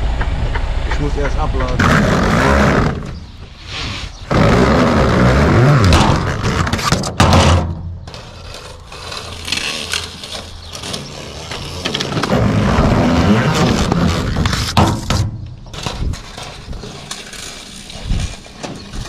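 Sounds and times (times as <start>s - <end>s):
plastic pipe scraping and rattling: 1.7s - 19.0s.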